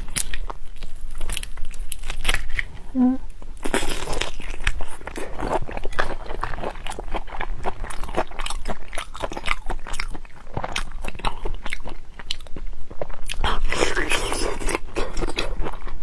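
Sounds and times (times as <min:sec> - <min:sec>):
biting and chewing prawns: 0:00.0 - 0:02.8, 0:03.6 - 0:16.0.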